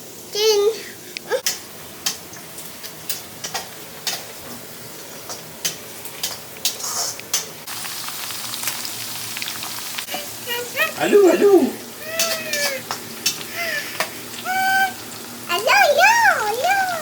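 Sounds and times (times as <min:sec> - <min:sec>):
onions sizzling in oil: 0:00.0 - 0:17.0
oil crackling and popping: 0:01.4 - 0:04.6, 0:05.3 - 0:11.0, 0:11.8 - 0:17.0.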